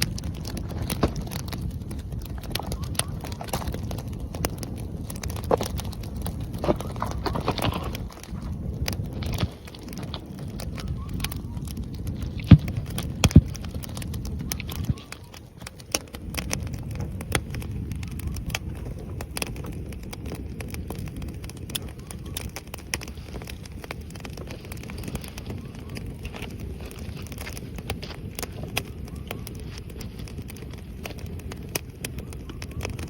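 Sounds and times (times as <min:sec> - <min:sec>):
fire crackling and popping: 0:00.0 - 0:33.0
firewood burning: 0:00.0 - 0:33.0.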